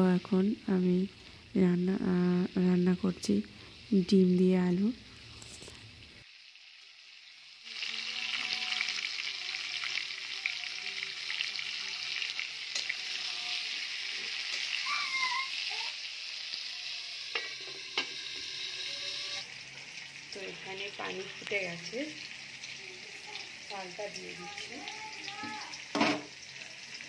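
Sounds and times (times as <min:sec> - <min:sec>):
potatoes sizzling in oil: 0:00.0 - 0:27.0.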